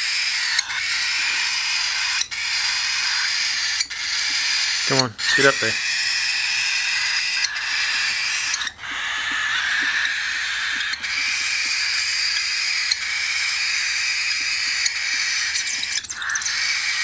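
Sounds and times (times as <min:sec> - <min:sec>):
cockatiel chick begging hiss: 0:00.0 - 0:17.0.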